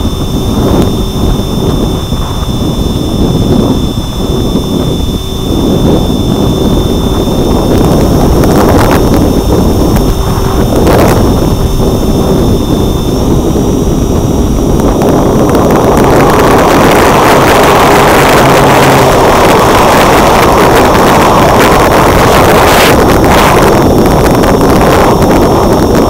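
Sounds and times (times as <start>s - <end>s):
electric motor and propeller whine: 0.0s - 26.0s
wind rushing over microphone: 0.0s - 26.0s.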